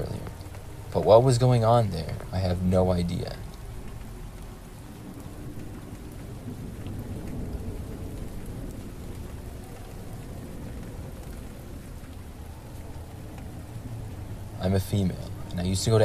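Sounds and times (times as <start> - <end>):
steady rain: 0.0 - 16.0
thunder rumble: 0.0 - 16.0.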